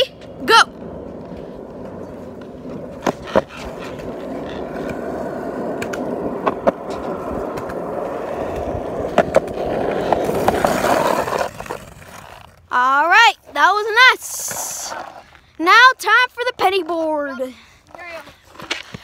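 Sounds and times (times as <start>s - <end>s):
skateboard wheels clacking on joints: 0.0s - 19.0s
skateboard wheels rolling on concrete: 0.0s - 19.0s.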